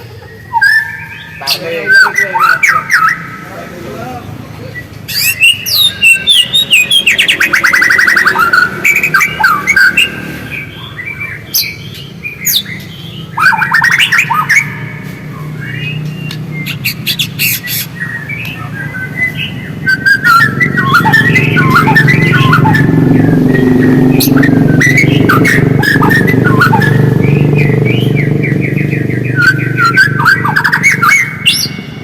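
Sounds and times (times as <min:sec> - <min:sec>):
bird singing whistles and trills: 0:00.1 - 0:03.5, 0:04.6 - 0:32.0.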